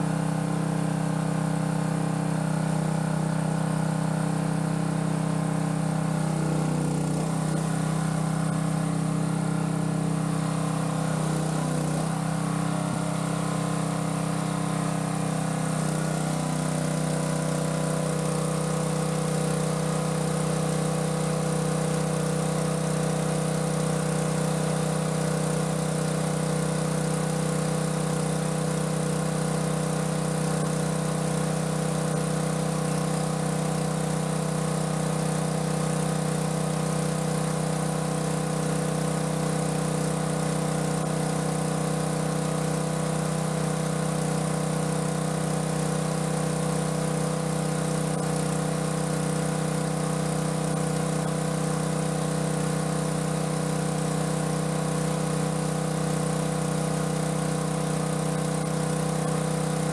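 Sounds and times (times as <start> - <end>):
gasoline engine water pump running: 0.0 - 59.9.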